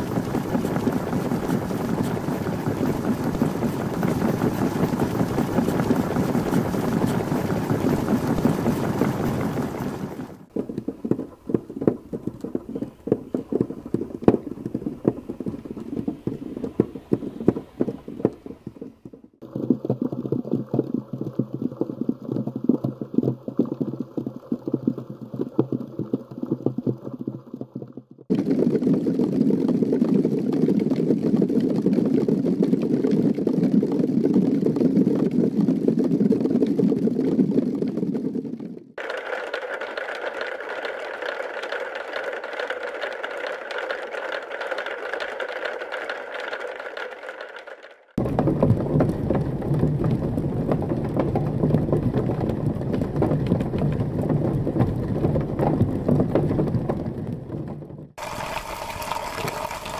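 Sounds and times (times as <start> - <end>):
felt balls tapping cardboard boxes: 0.0 - 47.5, 48.2 - 58.0
cork balls rattling in wooden boxes: 0.0 - 59.9.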